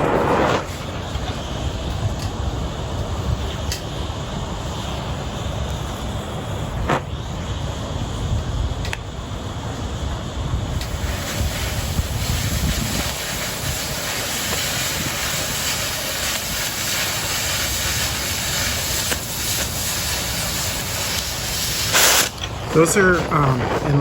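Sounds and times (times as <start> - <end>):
cutting torch hissing: 0.0 - 24.0.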